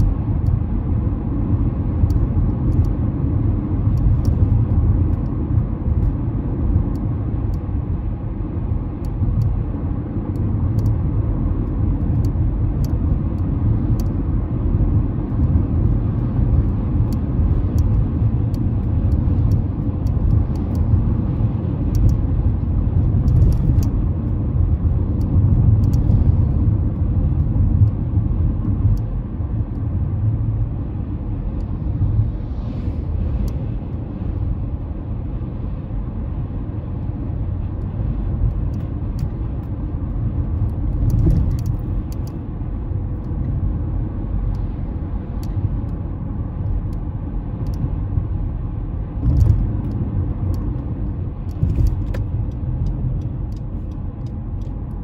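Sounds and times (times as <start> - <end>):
car cabin road noise: 0.0 - 55.0.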